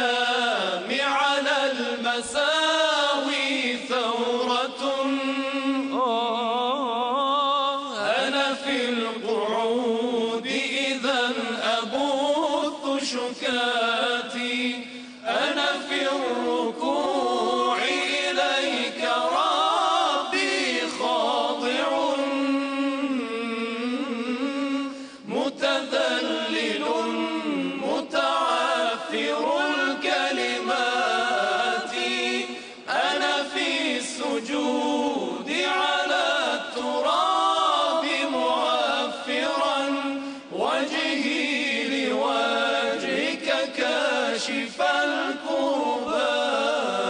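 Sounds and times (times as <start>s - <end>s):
male choir chanting a cappella: 0.0s - 47.0s.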